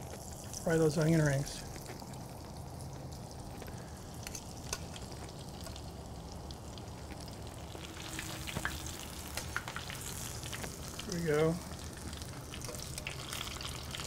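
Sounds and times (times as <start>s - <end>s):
deep-frying bubbling sizzle: 0.0s - 14.0s.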